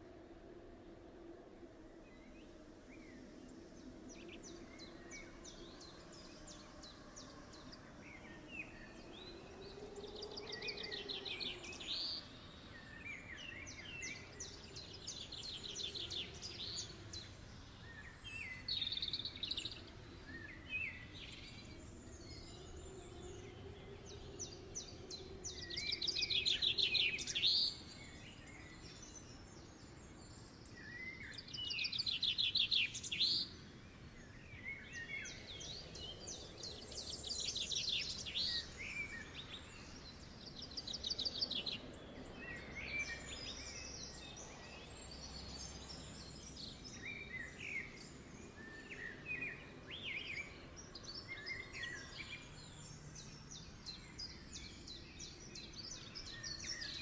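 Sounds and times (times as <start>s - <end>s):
small birds singing: 0.0s - 57.0s.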